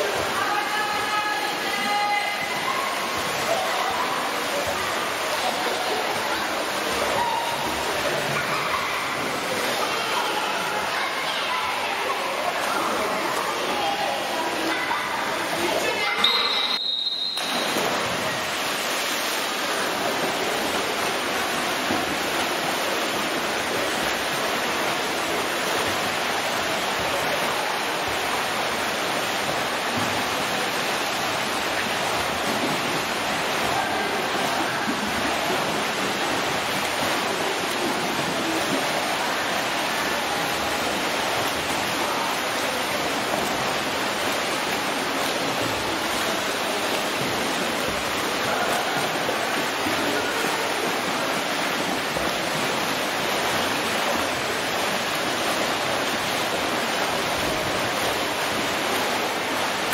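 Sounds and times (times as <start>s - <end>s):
splashing pool water: 0.0s - 59.9s
swimmers diving into water: 0.0s - 59.9s.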